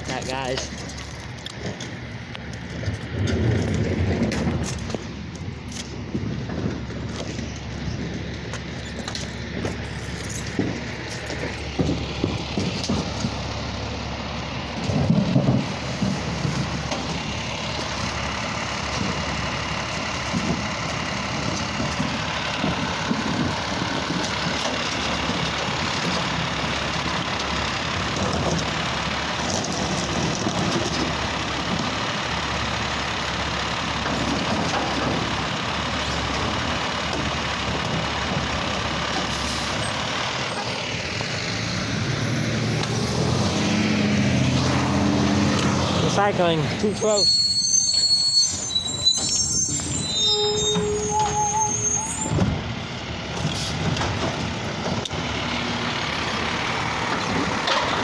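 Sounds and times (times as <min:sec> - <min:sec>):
garbage truck engine idling: 0:00.0 - 0:58.0.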